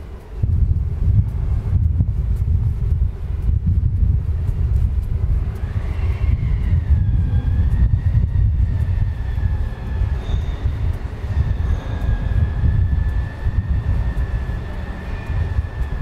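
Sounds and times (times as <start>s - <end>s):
high whine: 0.0s - 16.0s
low rumble of traffic: 0.0s - 16.0s.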